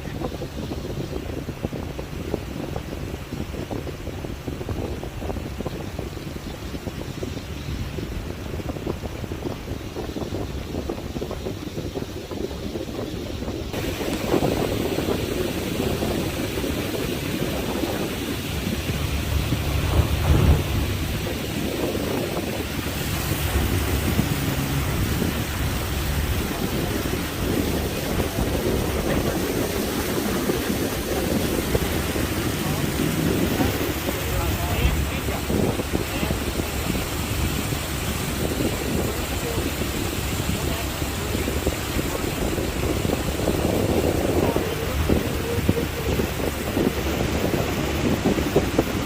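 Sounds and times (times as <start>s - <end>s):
boat motor running: 0.0s - 49.0s
water rushing past hull: 0.0s - 49.0s
wind buffeting microphone: 0.0s - 49.0s.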